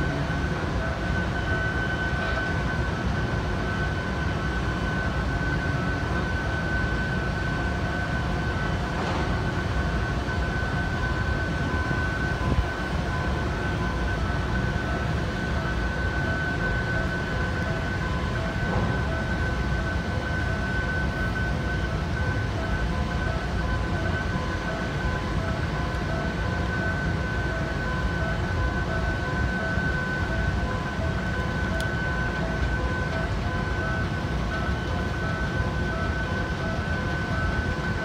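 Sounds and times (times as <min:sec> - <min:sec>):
crane mechanical rumble: 0:00.0 - 0:38.0
high-pitched whine: 0:00.0 - 0:38.0.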